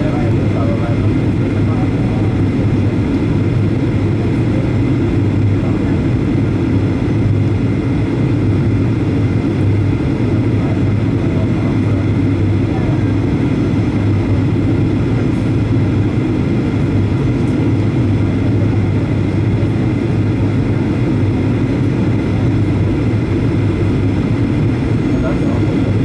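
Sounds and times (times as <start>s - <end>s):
airplane cabin engine hum: 0.0s - 26.0s.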